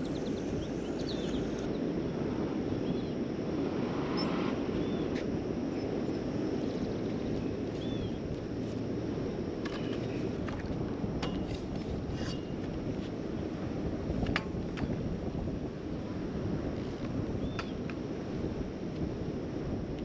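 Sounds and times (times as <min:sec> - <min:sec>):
outdoor riverbank noise: 0:00.0 - 0:20.0.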